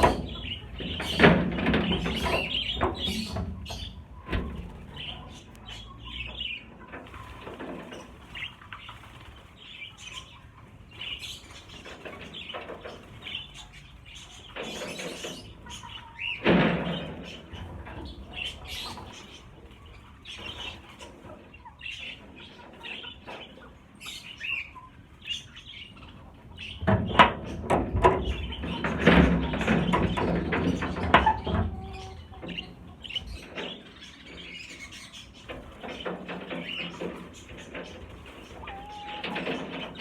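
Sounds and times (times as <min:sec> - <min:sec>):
birds fluttering in wire cage: 0:00.0 - 0:23.2, 0:25.2 - 0:40.0.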